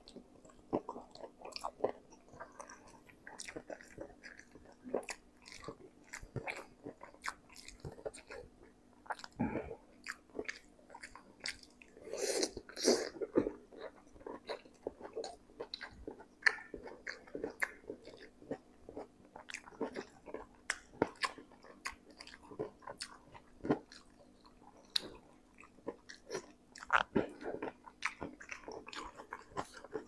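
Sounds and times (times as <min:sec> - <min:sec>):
chewing with wet mouth smacks: 0:00.0 - 0:30.0.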